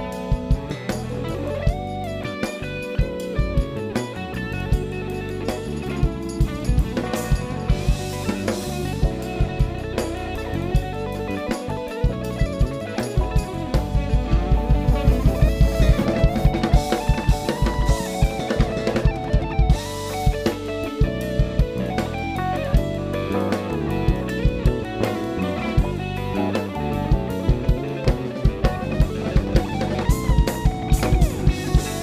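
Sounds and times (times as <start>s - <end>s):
congas: 0.0s - 32.0s
drum kit: 0.0s - 32.0s
electric guitar lead: 0.0s - 32.0s.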